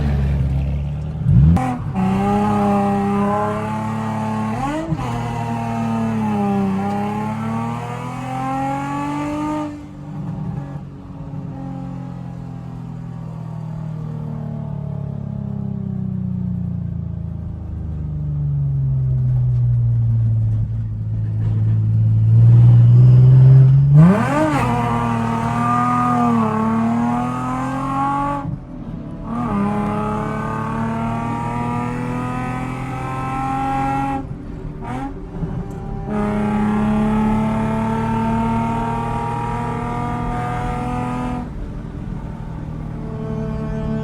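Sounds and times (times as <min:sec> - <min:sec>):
car engine revving: 0:00.0 - 0:15.1, 0:19.9 - 0:44.0.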